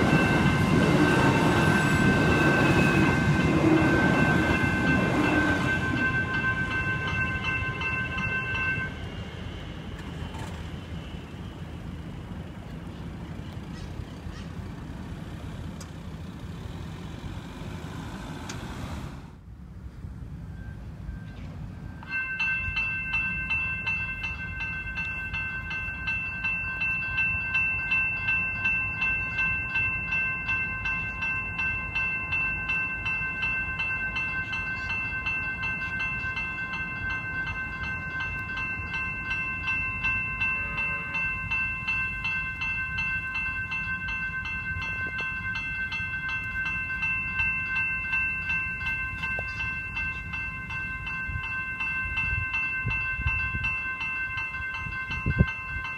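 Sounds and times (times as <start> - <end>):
level crossing bells ringing: 0.0 - 13.8, 22.0 - 55.9.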